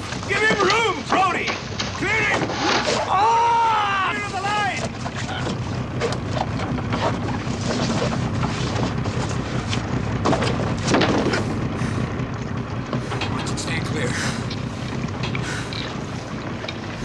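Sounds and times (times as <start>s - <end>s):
boat engine running: 0.0s - 17.0s
sea noise: 0.0s - 17.0s
wind: 0.0s - 17.0s.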